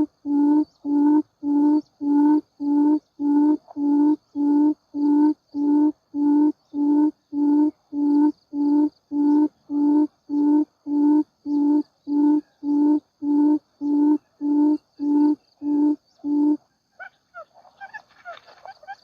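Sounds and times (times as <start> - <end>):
high insect drone: 0.0 - 16.8
quail hooting calls: 0.0 - 19.0.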